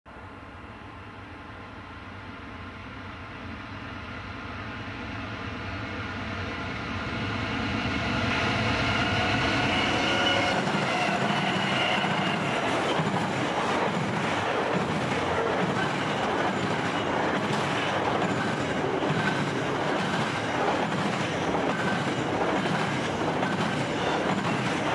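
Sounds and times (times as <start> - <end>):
diesel locomotive engines: 0.1 - 24.9.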